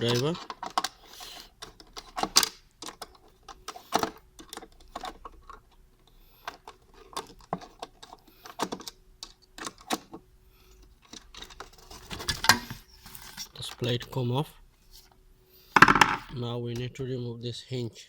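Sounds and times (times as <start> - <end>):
parts being handled: 0.0 - 5.8, 6.4 - 14.0, 14.9 - 16.4.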